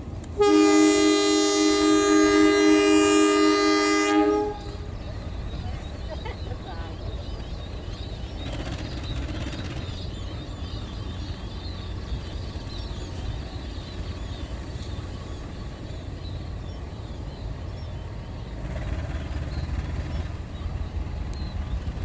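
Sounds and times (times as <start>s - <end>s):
locomotive engine rumble: 0.0s - 22.0s.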